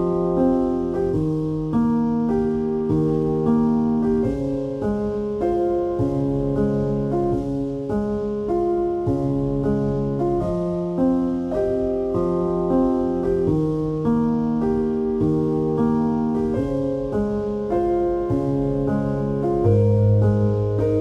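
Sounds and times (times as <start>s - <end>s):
piano background music: 0.0s - 21.0s.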